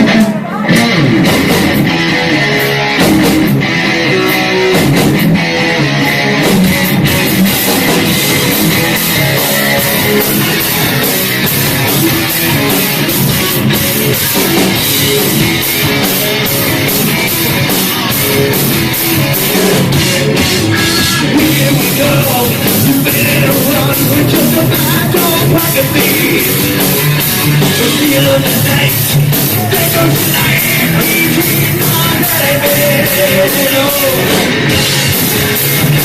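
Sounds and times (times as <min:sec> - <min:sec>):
drums and cymbals: 0:00.0 - 0:05.5, 0:06.2 - 0:36.0
electric guitar riffing: 0:00.0 - 0:36.0.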